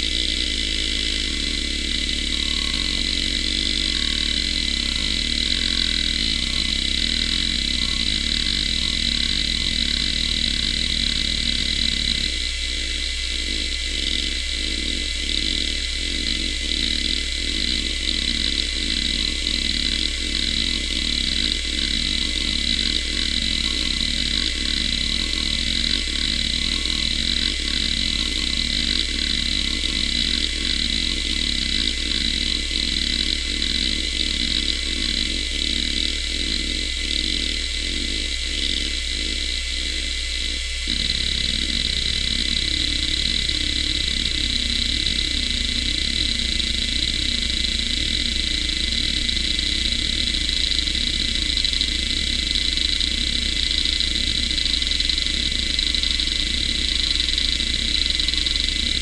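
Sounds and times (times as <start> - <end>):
hard drive platters whining: 0.0 - 39.6, 40.3 - 59.0.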